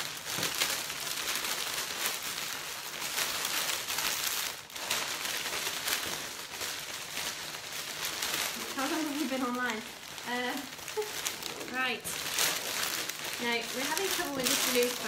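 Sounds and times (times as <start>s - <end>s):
cellophane crinkling: 0.0s - 15.0s.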